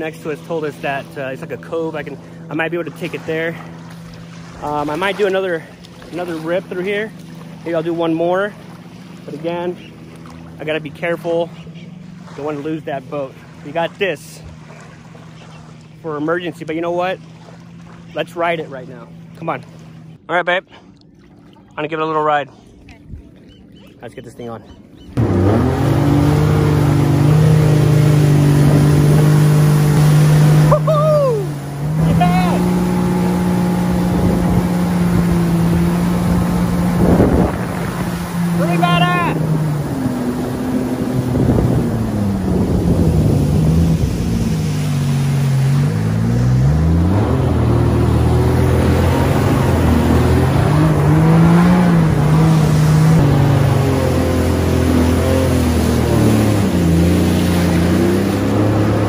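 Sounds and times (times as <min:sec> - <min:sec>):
jet ski engine running: 0:00.0 - 0:59.0
water and wind noise: 0:00.0 - 0:59.0.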